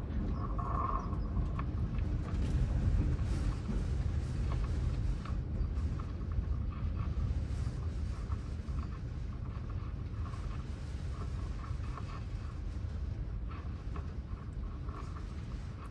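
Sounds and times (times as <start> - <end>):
gusty wind rumbling: 0.0 - 15.9.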